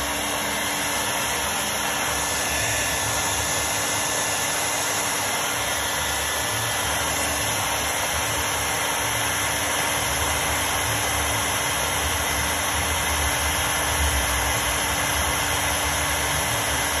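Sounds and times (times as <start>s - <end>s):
electric blower rushing air: 0.0s - 17.0s.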